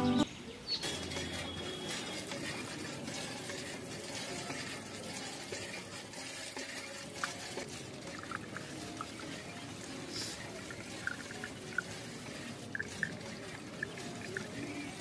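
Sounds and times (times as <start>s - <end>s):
water trickling from hand pump: 0.8s - 15.0s.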